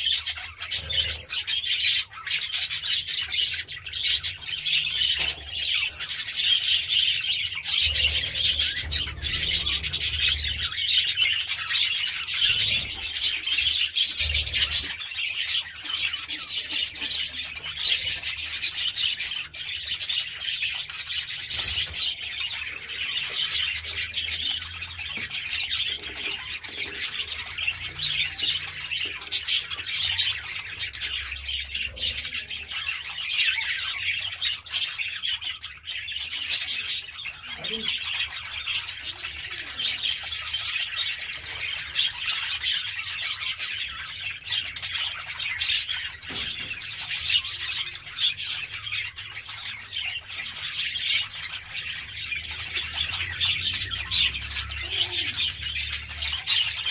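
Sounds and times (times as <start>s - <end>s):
flock of budgerigars chattering: 0.0s - 56.9s.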